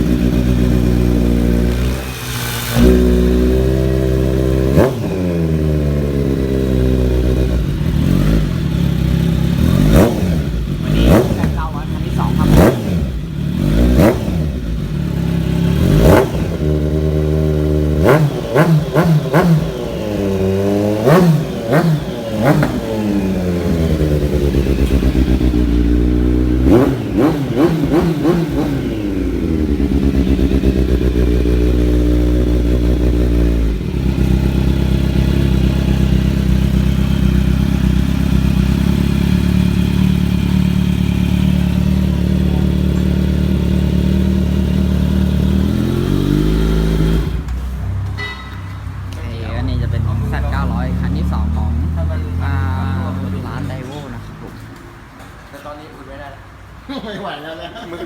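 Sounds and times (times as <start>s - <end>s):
motorcycle engine idling: 0.0s - 52.5s
motorcycle engine revving: 0.0s - 54.6s.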